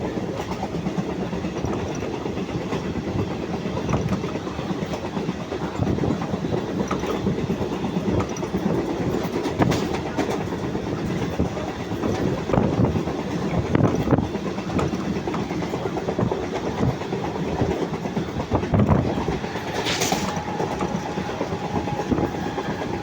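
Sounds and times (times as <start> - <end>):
clickety-clack over rail joints: 0.0 - 23.0
train wheels rumbling on rails: 0.0 - 23.0.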